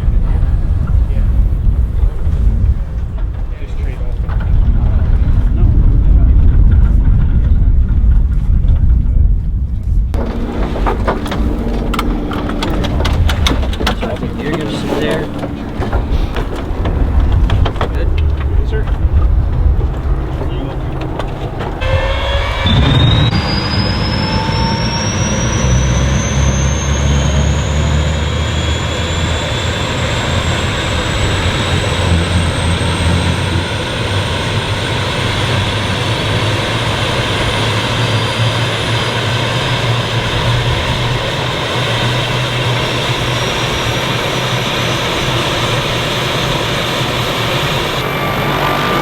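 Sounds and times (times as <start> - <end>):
low rumble: 0.0 - 49.0
helicopter turbine whine: 9.8 - 49.0.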